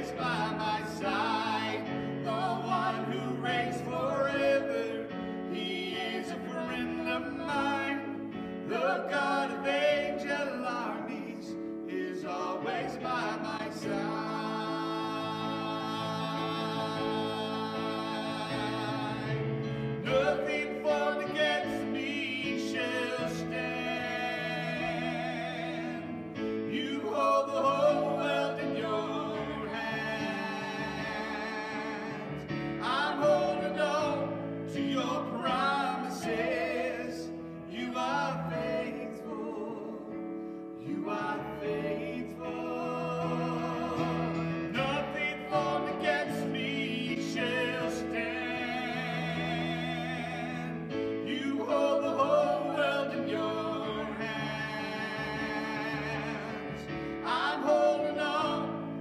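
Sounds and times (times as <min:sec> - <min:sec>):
electric keyboard chords: 0:00.0 - 0:59.0
man and woman singing: 0:00.0 - 0:59.0.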